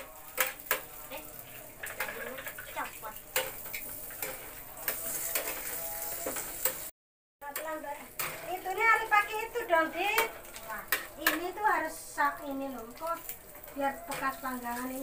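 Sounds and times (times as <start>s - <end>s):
tongs tapping a pan: 0.0s - 1.0s, 1.8s - 11.7s, 13.2s - 14.8s
burger patties sizzling: 0.0s - 15.0s.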